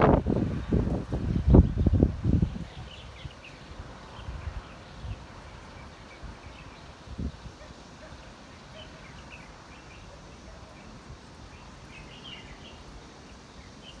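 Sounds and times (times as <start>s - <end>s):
background hiss: 0.0s - 14.0s
bird chirps: 2.6s - 14.0s.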